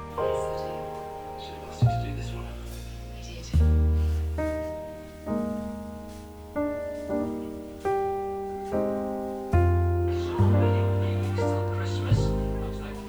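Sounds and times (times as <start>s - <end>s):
slow solo piano music: 0.0s - 13.0s.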